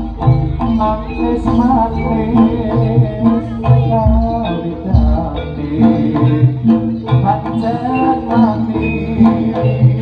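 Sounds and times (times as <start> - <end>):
gamelan ensemble playing: 0.0 - 10.0
wavering melody line: 0.0 - 10.0.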